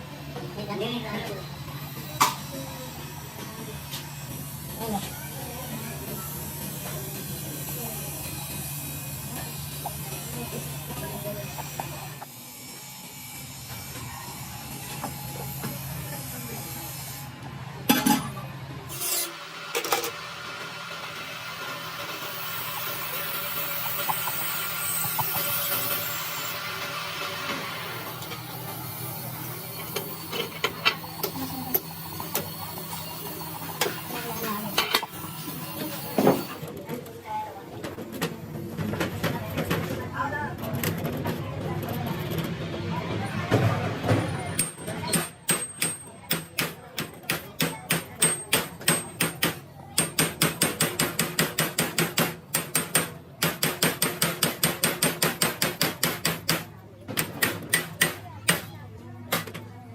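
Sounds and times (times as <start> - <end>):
workshop machine humming: 0.0 - 51.6.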